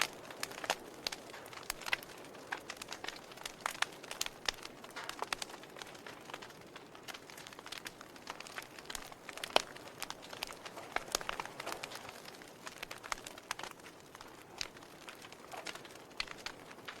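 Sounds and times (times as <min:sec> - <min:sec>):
logs crackling and popping: 0:00.0 - 0:17.0
soft fire hiss: 0:00.0 - 0:17.0.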